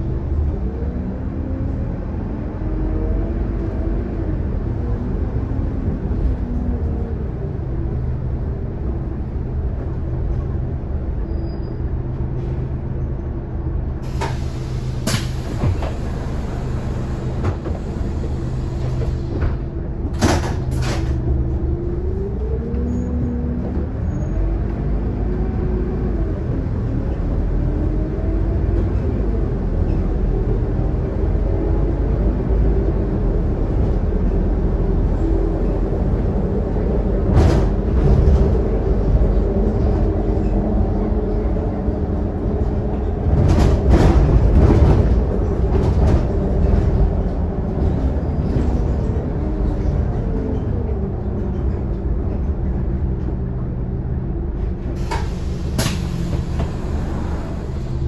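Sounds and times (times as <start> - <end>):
bus engine drone and whine: 0.0 - 58.0.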